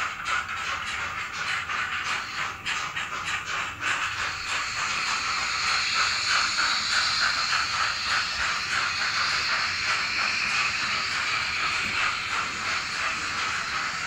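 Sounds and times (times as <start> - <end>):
model train running: 0.0 - 14.0.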